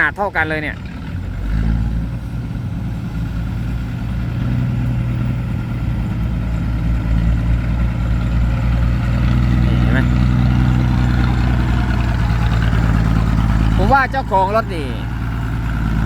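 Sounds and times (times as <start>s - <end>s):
diesel truck engine droning: 0.0s - 16.0s.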